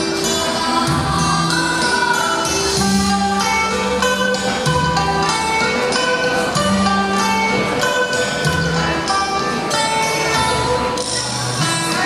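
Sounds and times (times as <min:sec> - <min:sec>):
plucked-string music with percussion: 0:00.0 - 0:12.0.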